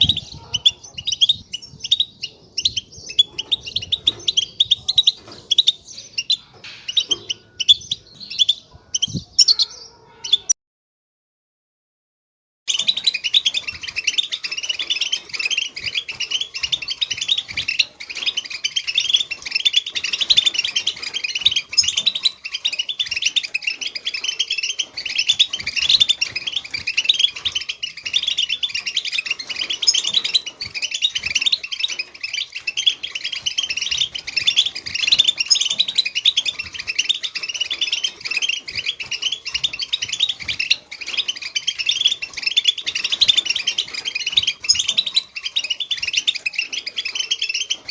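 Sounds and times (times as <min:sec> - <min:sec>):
finches twittering: 0:00.0 - 0:10.5, 0:12.7 - 0:47.9.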